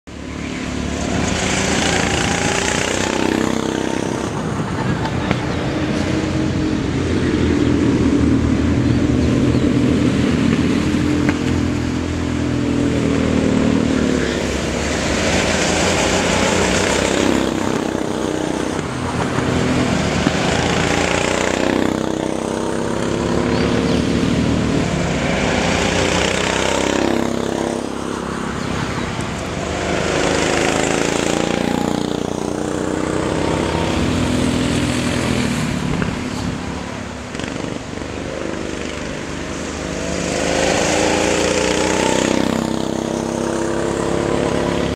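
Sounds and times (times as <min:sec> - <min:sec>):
go-kart engines passing by: 0:00.1 - 0:44.9.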